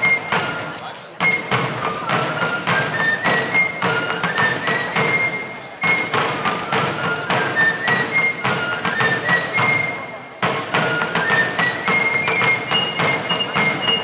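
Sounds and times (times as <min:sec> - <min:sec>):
field drums beat: 0:00.0 - 0:14.0
fife melody: 0:00.0 - 0:14.0.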